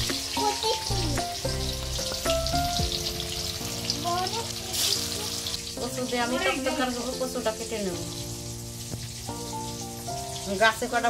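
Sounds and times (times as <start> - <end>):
background music with held notes: 0.0 - 11.0
fish sizzling in hot oil: 0.0 - 11.0.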